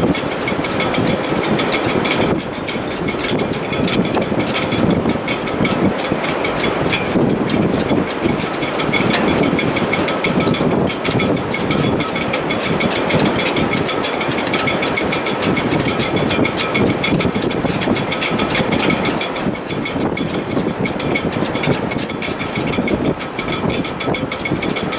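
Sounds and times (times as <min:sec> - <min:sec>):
rigging ticking and rattling: 0:00.0 - 0:24.9
wind rushing in rigging: 0:00.0 - 0:24.9.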